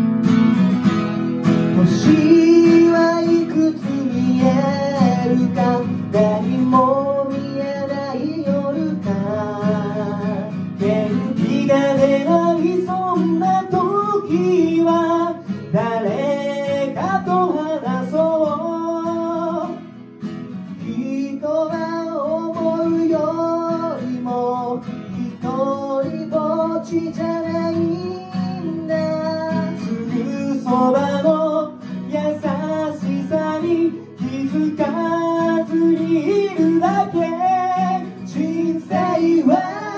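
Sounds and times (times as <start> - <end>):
acoustic guitars strumming: 0.0 - 39.9
men singing a pop ballad: 1.8 - 19.8, 20.8 - 39.9.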